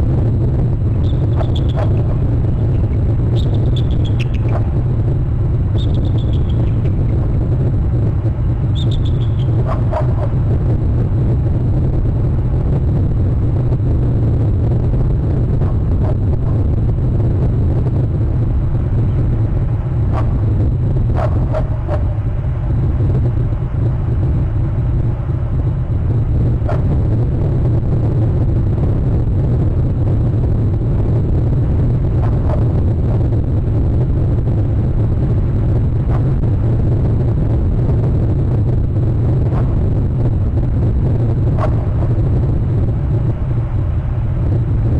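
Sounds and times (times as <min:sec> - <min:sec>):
wind rumble on microphone: 0:00.0 - 0:44.9.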